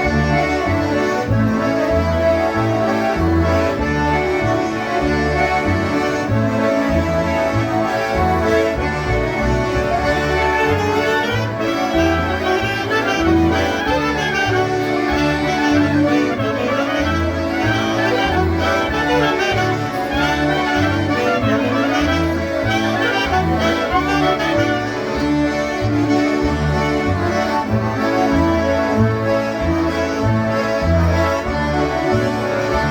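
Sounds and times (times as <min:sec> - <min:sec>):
concertinas playing a polka: 0:00.0 - 0:32.9.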